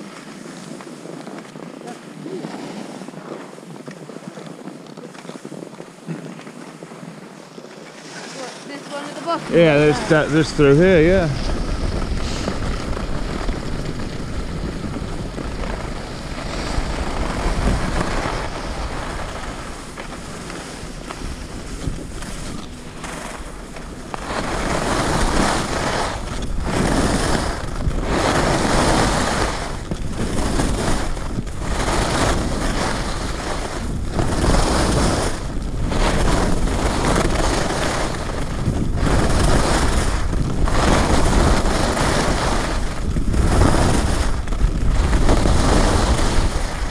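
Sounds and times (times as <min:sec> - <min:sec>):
skis sliding over snow: 0:00.0 - 0:46.9
wind buffeting microphone: 0:00.0 - 0:46.9.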